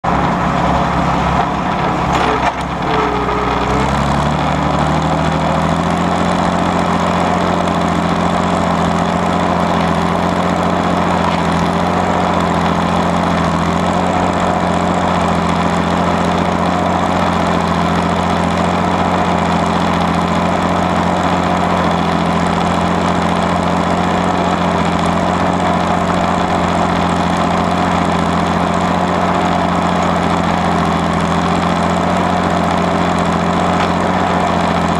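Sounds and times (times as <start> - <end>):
tractor engine working under load: 0.0 - 34.9.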